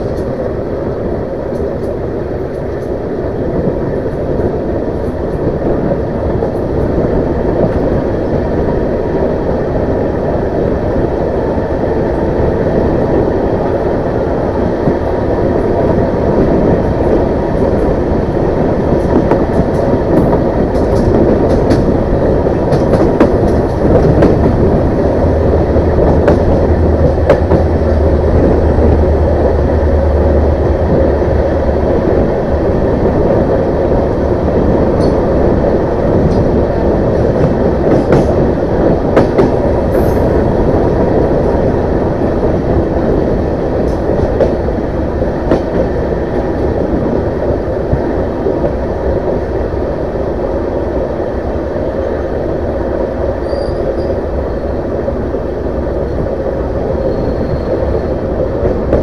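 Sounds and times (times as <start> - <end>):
rushing air: 0.0 - 59.0
train wheels rumbling on rails: 0.0 - 59.0.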